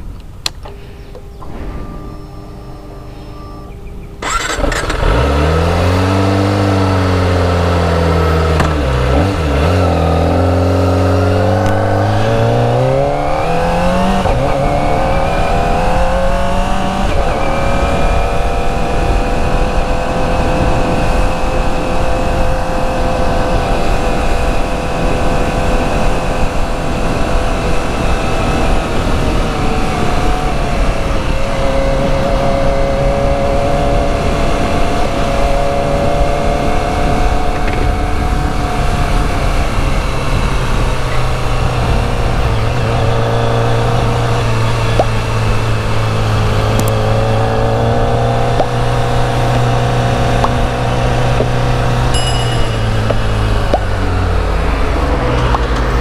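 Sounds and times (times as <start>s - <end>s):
wind noise: 0.0s - 56.0s
motorcycle engine revving: 1.2s - 56.0s.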